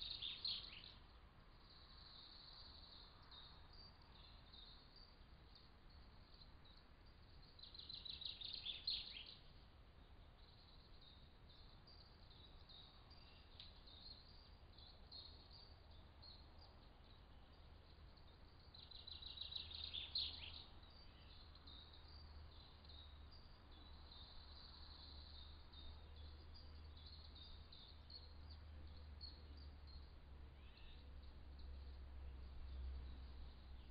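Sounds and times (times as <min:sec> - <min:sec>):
faint bird chirps: 0:00.0 - 0:33.9.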